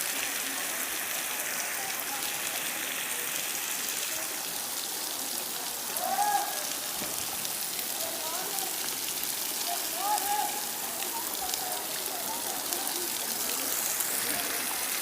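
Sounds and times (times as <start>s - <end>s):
waterfall hissing: 0.0s - 15.0s.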